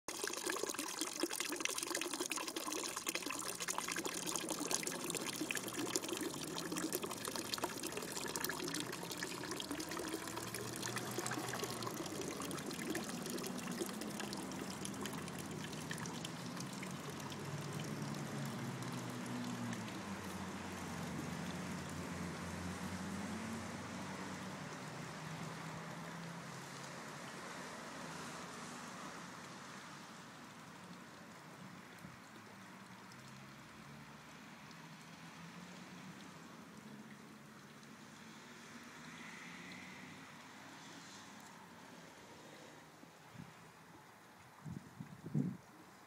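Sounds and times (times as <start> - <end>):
fountain water trickling into pond: 0.1 - 46.0.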